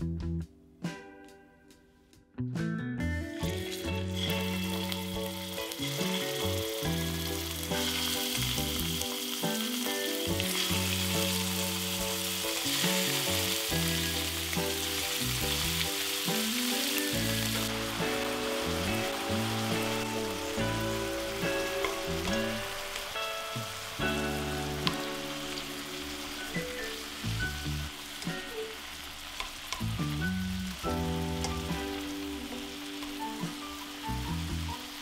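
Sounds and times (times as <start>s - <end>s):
background music: 0.0s - 35.0s
meat sizzling in hot oil: 3.4s - 35.0s.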